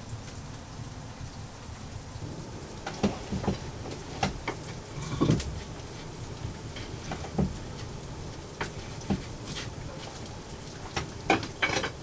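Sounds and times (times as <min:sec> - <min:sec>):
wet snow falling and dripping: 0:00.0 - 0:12.0.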